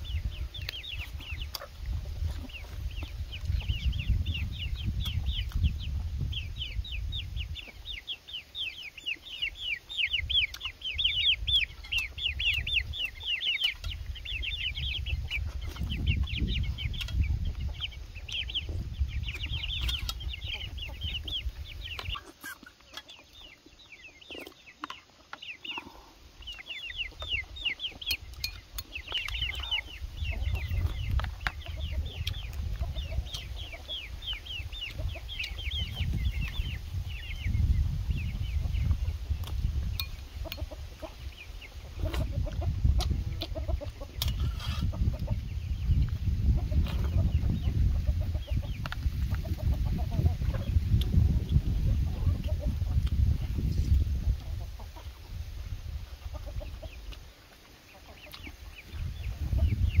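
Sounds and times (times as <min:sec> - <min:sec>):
chicks peeping: 0:00.0 - 1:00.0.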